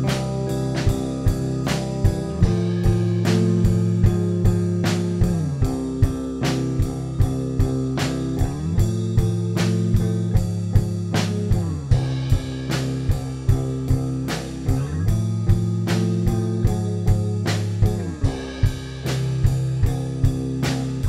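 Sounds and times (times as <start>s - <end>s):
rock music with guitar and drums: 0.0s - 21.0s.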